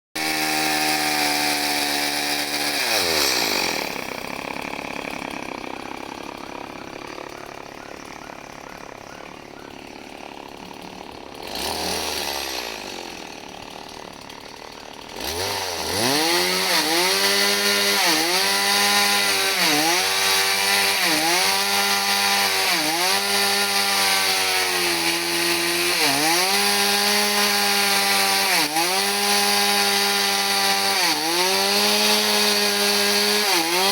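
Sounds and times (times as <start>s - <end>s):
chainsaw engine running: 0.2s - 33.9s.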